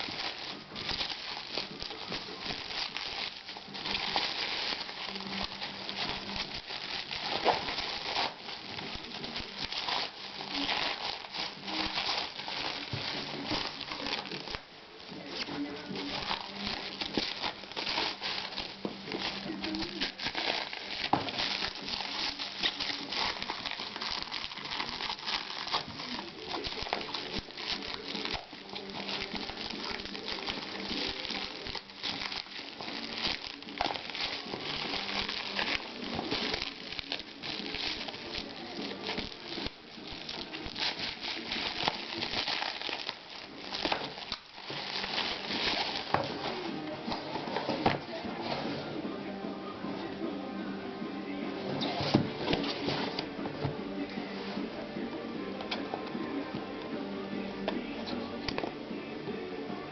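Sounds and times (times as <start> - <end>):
packaging crinkling and rustling: 0.0 - 48.8, 51.8 - 54.2.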